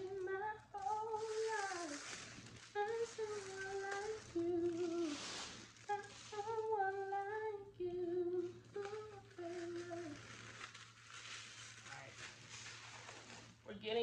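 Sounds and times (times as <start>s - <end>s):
tissue paper rustling: 0.0s - 14.0s.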